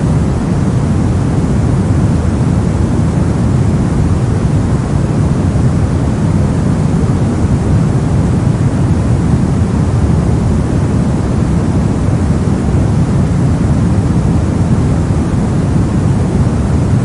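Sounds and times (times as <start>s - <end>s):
deep rushing white noise: 0.0s - 17.0s.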